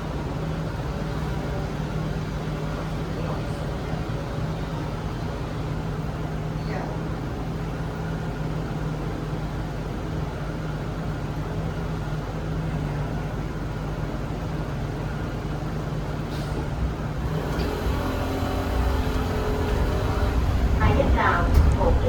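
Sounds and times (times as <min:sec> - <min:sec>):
bus cabin low hum: 0:00.0 - 0:22.0
road noise: 0:00.0 - 0:22.0.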